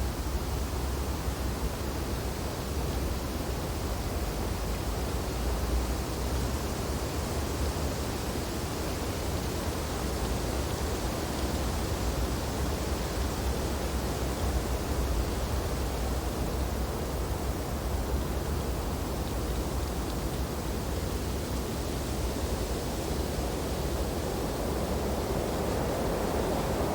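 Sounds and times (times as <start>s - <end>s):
wind through tree branches: 0.0s - 26.9s.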